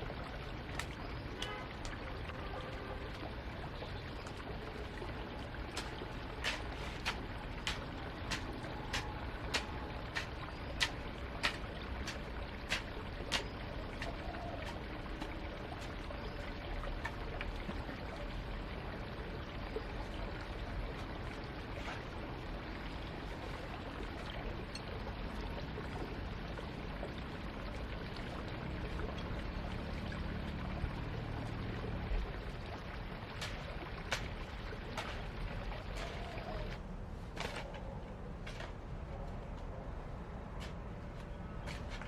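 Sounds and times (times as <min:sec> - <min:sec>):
running water: 0:00.0 - 0:37.6.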